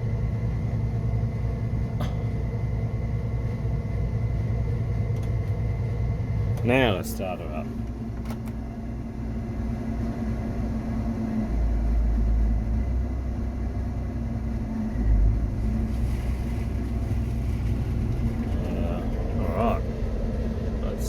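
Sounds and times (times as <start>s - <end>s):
combine harvester humming: 0.0s - 21.0s.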